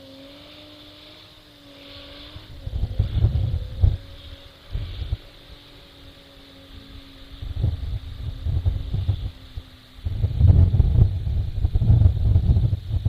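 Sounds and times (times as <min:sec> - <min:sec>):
distant engine drone: 0:00.0 - 0:13.0
wind buffeting microphone: 0:01.8 - 0:13.0.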